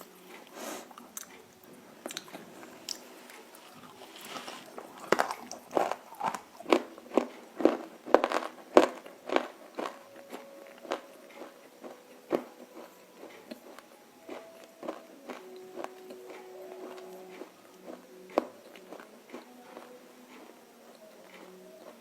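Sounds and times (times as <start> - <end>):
crunchy food being chewed: 0.0 - 22.0.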